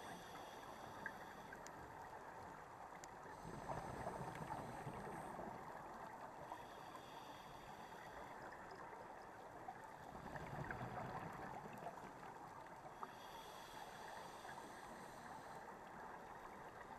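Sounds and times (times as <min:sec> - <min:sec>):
muffled underwater rushing hiss: 0:00.0 - 0:02.1, 0:03.3 - 0:08.9, 0:09.9 - 0:16.9.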